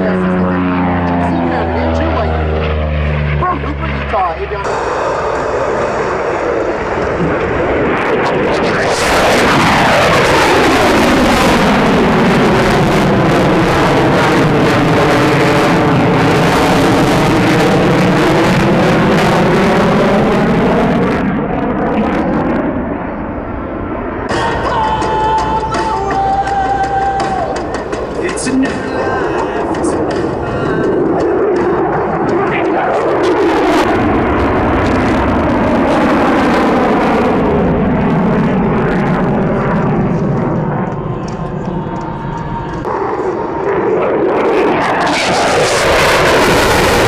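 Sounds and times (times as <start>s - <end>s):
jet fighter flying overhead: 0.0s - 47.0s.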